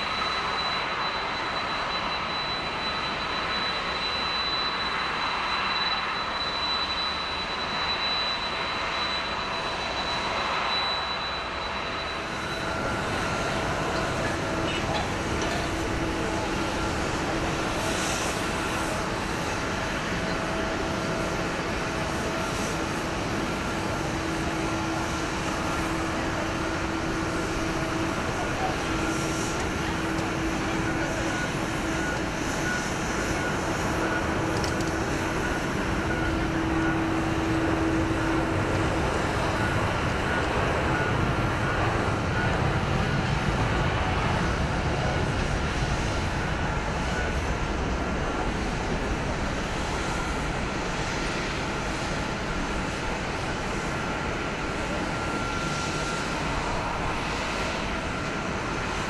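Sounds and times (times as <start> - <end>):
faint engine whine: 0.0 - 59.0
jet engines rumbling: 0.0 - 59.0.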